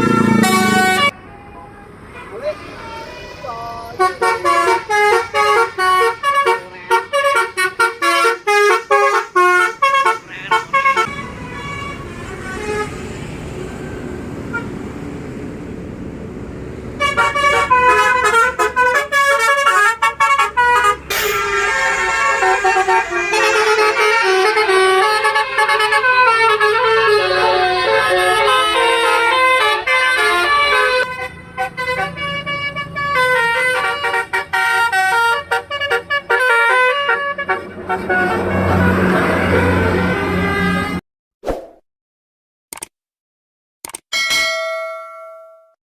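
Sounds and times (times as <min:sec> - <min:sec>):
bus musical air horn: 0:00.0 - 0:13.3, 0:14.5 - 0:14.7, 0:17.0 - 0:41.0
engine and road noise: 0:00.0 - 0:41.0.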